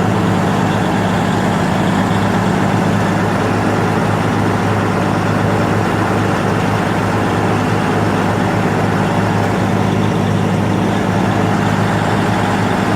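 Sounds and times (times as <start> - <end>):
truck diesel engine running: 0.0 - 12.9.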